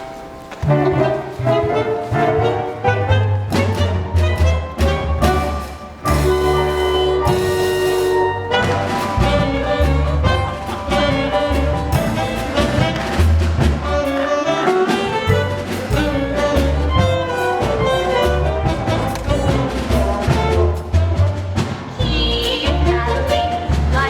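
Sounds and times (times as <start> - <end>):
orchestral music with brass: 0.0 - 24.0.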